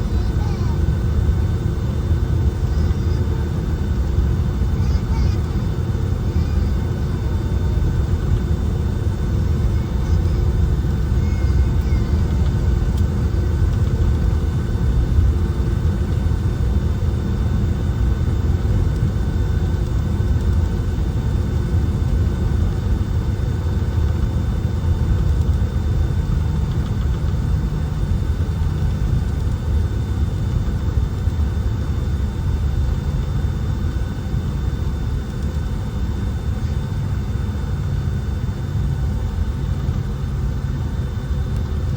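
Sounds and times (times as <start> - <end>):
airliner cabin engine rumble: 0.0 - 41.9
faint steady whine: 0.0 - 41.9.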